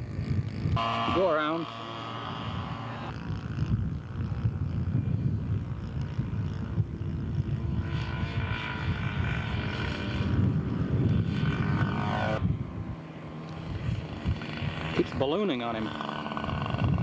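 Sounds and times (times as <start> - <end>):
model airplane engine whine: 0.0 - 17.0
wind rumble on microphone: 0.0 - 17.0.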